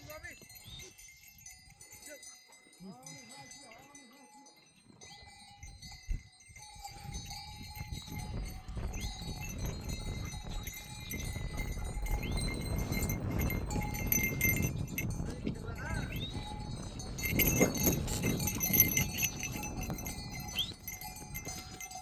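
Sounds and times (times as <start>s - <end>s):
small bells clinking: 0.0s - 22.0s.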